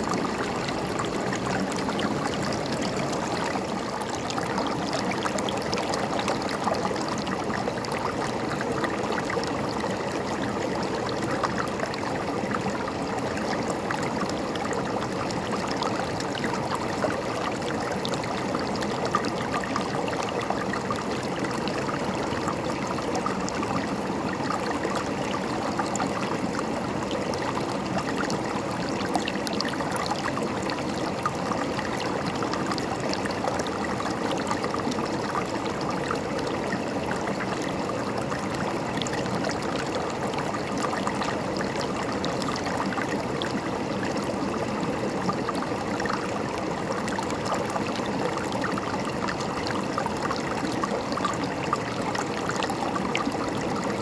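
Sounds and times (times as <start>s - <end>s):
river water babbling over stones: 0.0s - 54.0s.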